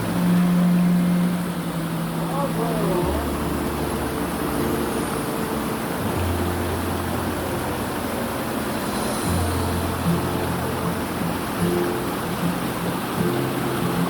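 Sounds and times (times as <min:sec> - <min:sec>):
mountain stream rushing: 0:00.0 - 0:14.0
sustained low music notes: 0:00.0 - 0:14.0.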